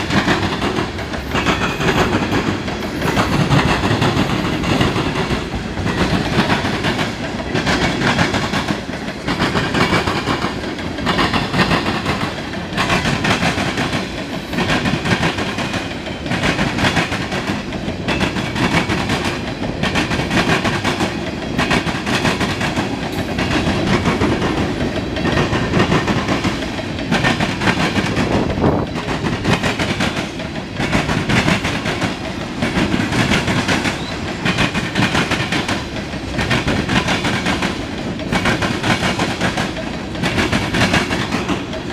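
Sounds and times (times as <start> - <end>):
freight train wheels clacking: 0.0 - 41.9
train rumble: 0.0 - 41.9.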